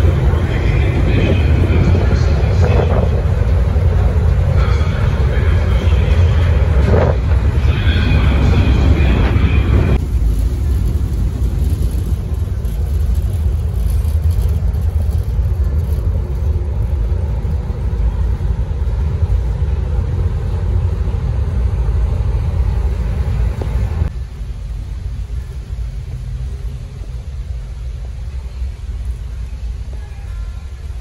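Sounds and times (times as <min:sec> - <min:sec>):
ferry engine rumble: 0:00.0 - 0:31.0
wind noise: 0:00.0 - 0:31.0.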